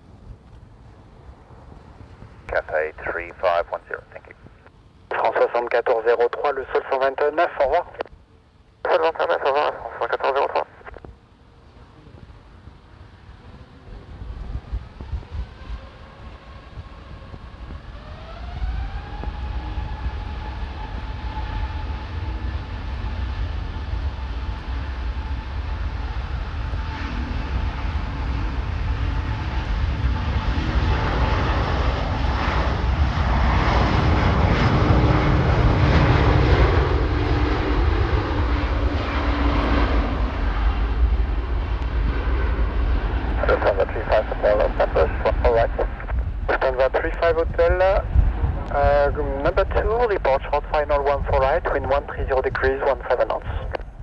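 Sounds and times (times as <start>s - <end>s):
jet engines roaring on takeoff: 0.0s - 54.0s.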